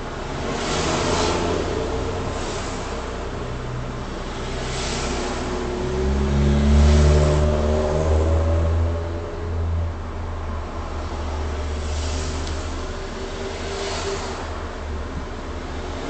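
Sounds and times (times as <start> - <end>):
vehicle engine accelerating: 0.0 - 9.8, 10.5 - 16.0.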